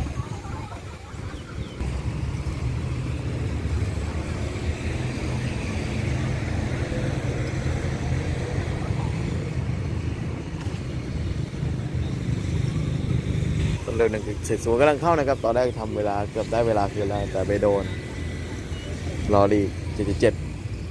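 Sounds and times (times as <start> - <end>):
low engine drone: 0.0 - 20.9
outdoor noise: 0.0 - 20.9.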